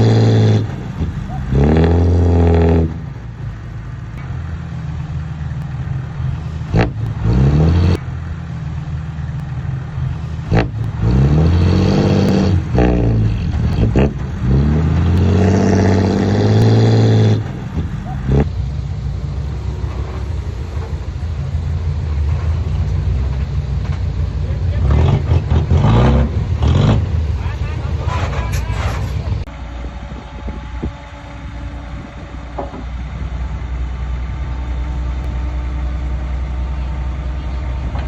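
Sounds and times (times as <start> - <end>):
diesel engine revving under load: 0.0 - 38.0.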